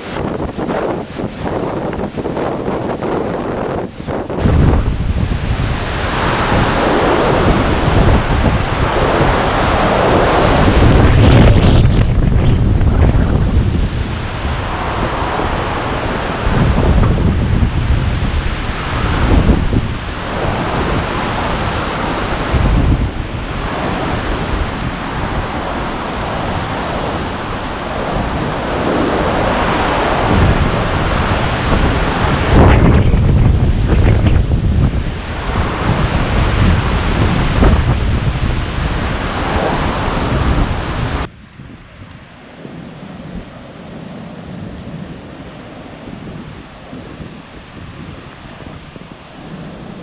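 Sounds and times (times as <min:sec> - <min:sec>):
strong wind gusting: 0:00.0 - 0:50.0
wind buffeting microphone: 0:00.0 - 0:50.0.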